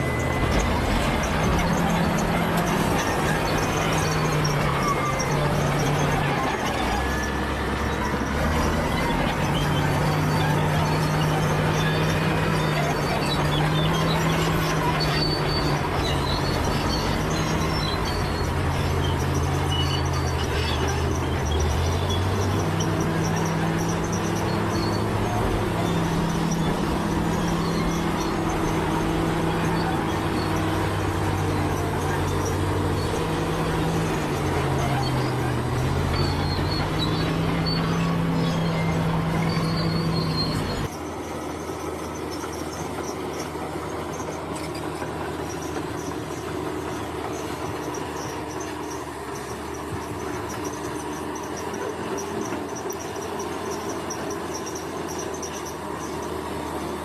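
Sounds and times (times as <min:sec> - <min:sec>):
bulldozer diesel engine working: 0:00.0 - 0:57.0.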